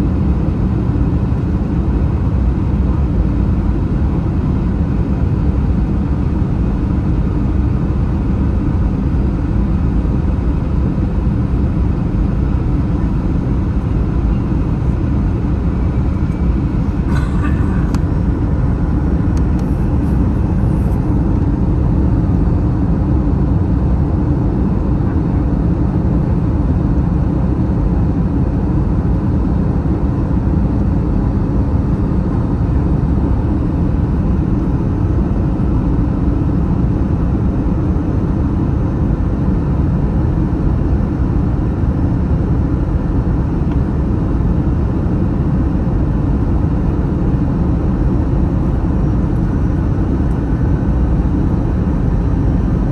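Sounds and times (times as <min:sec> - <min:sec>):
airplane cabin engine rumble: 0:00.0 - 0:52.9
faint steady hum: 0:00.0 - 0:52.9.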